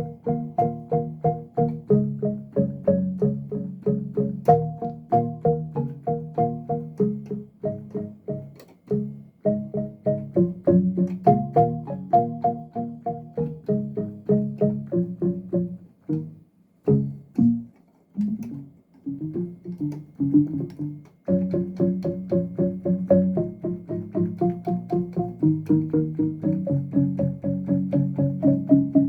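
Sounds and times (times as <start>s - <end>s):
plucked synth chords: 0.0s - 29.0s.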